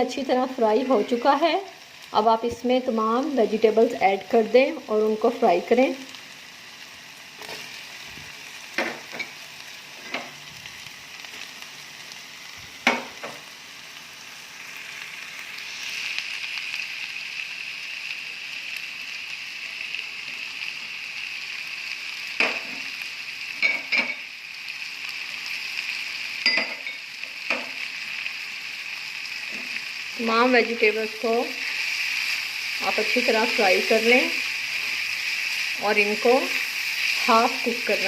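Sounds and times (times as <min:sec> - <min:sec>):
food sizzling in hot oil: 0:00.0 - 0:38.0.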